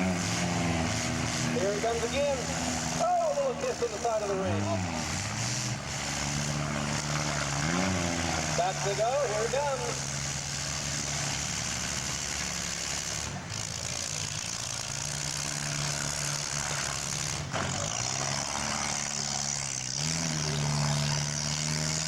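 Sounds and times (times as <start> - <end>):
engine revving: 0.0 - 22.0
small car engines running: 0.0 - 22.0.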